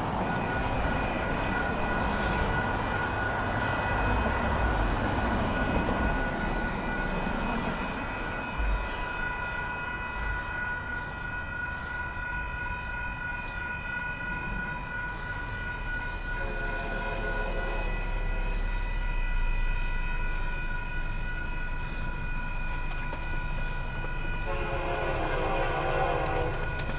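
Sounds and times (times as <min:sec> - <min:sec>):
crossing warning bells ringing: 0:00.0 - 0:26.9
freight train rumble: 0:00.0 - 0:26.9.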